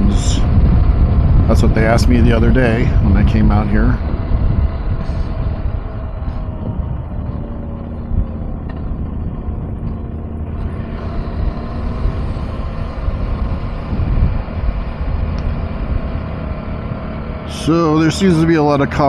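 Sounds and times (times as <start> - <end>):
low wind rumble: 0.0 - 19.0
motorcycle engine running: 0.0 - 19.0.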